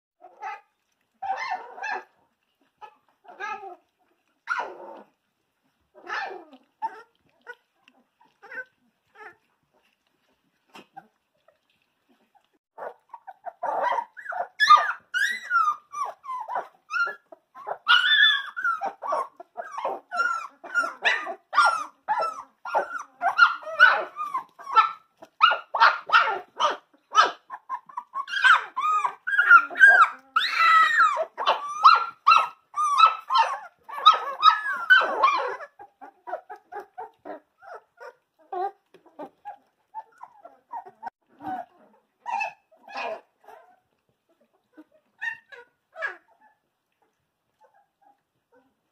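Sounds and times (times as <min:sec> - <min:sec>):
puppies whining and yipping: 0:00.2 - 0:48.9.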